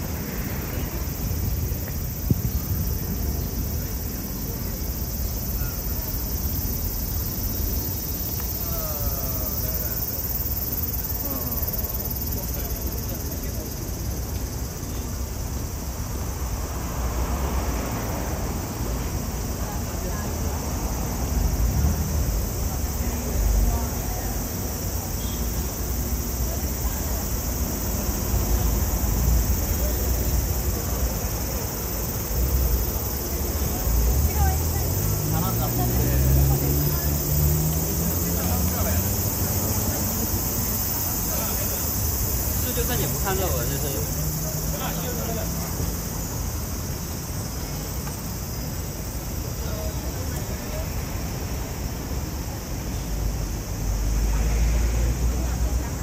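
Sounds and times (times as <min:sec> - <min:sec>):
cicadas droning: 0:00.0 - 0:56.0
low rumble of street noise: 0:00.0 - 0:56.0.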